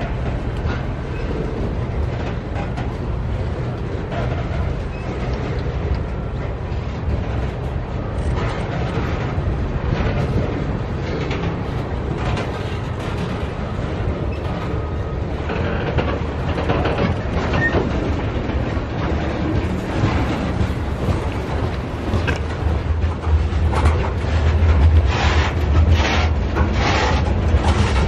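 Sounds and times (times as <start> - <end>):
freight train rumbling past: 0.0 - 28.0
wheels clacking over rail joints: 0.0 - 28.0.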